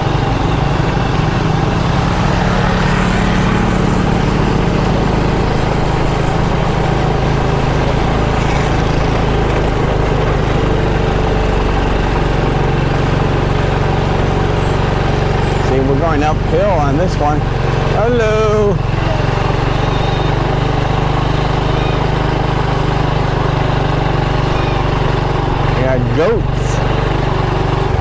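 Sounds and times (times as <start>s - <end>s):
broad rushing noise: 0.0s - 28.0s
motorcycle engine running: 0.0s - 28.0s.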